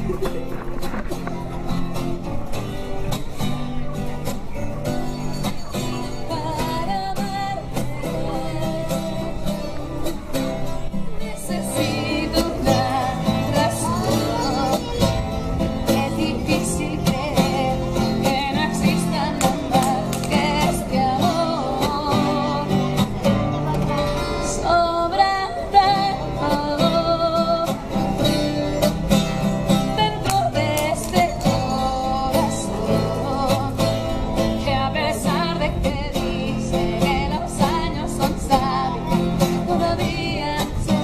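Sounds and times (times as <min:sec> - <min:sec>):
acoustic guitar: 0:00.0 - 0:41.0
person singing: 0:06.0 - 0:10.0, 0:11.1 - 0:41.0.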